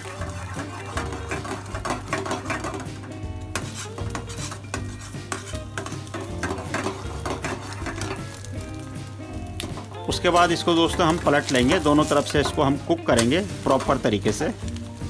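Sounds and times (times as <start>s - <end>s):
spatula scraping a frying pan: 0.0s - 8.8s, 9.5s - 15.0s
background music: 0.0s - 15.0s
egg sizzling in oil: 0.0s - 15.0s.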